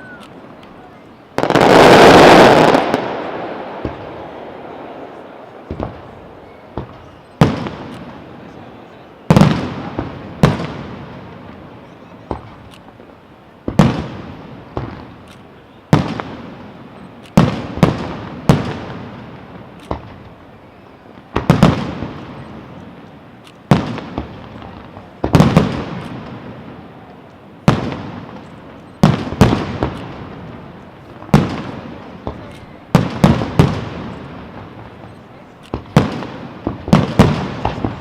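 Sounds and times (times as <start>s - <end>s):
fireworks bangs with rolling echo: 0.0s - 38.0s.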